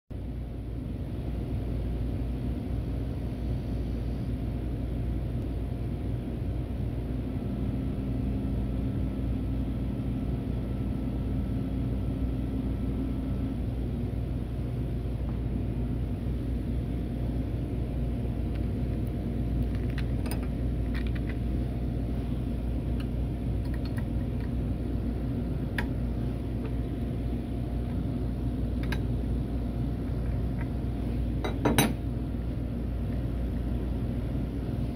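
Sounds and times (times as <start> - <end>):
low machine hum: 0.1 - 34.9.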